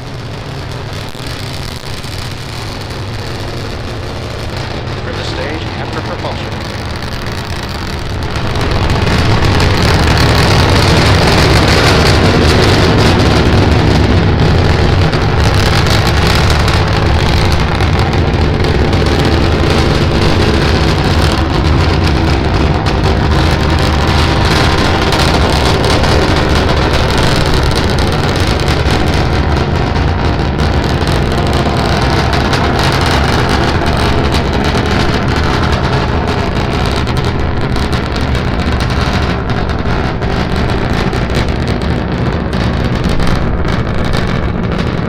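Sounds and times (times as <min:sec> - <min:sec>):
rocket engines roaring: 0:00.0 - 0:45.0.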